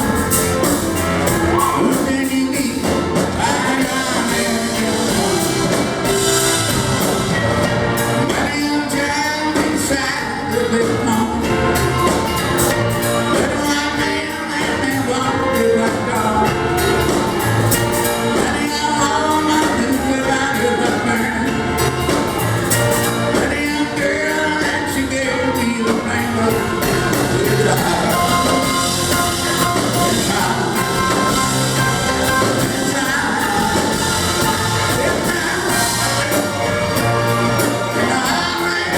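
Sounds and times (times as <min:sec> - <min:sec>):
man singing: 0:00.0 - 0:38.9
rock band playing: 0:00.0 - 0:38.9.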